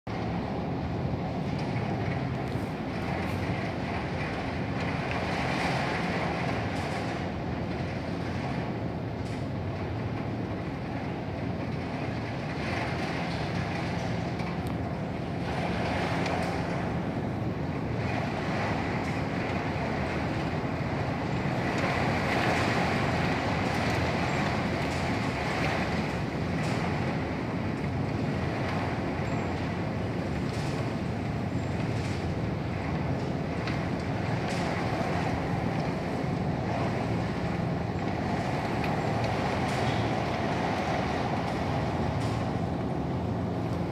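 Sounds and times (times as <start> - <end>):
storm wind and rain roar: 0.1 - 43.9.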